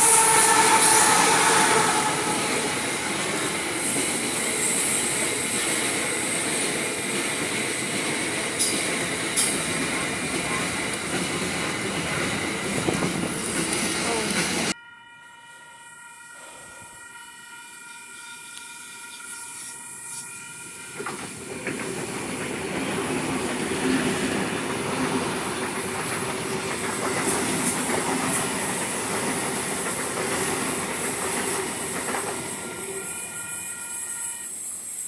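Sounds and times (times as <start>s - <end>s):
train wheels on rails: 0.0s - 14.8s, 16.4s - 35.0s.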